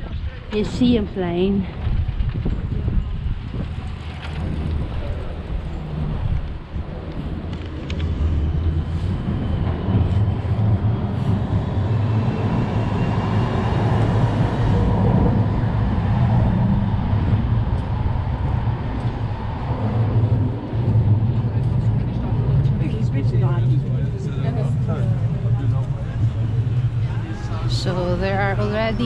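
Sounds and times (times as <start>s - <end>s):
street traffic: 0.0s - 29.0s
wind buffeting microphone: 0.0s - 29.0s.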